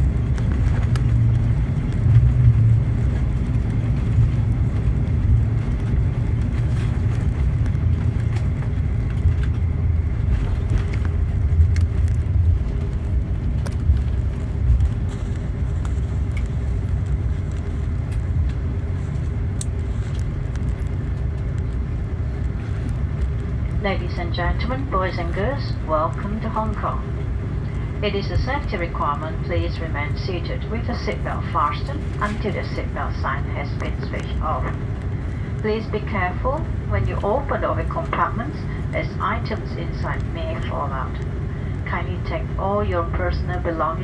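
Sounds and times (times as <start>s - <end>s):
aircraft cabin rumble: 0.0s - 44.0s.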